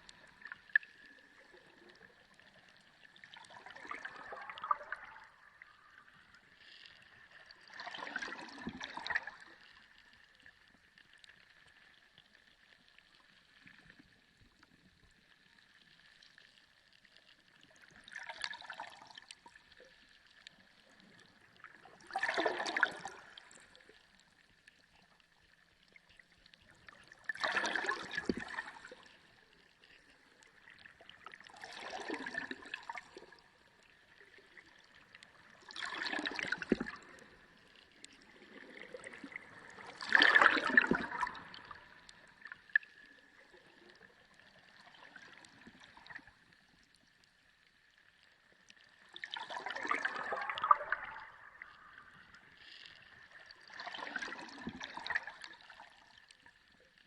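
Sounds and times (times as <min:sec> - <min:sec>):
bubbling swishing water underwater: 0:00.0 - 0:57.0.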